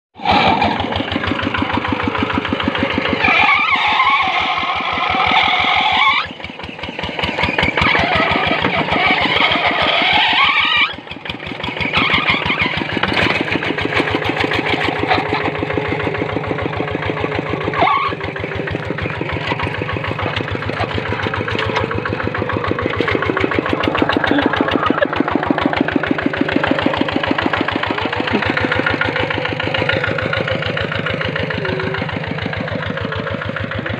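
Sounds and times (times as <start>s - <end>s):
small engine running: 0.2s - 33.9s.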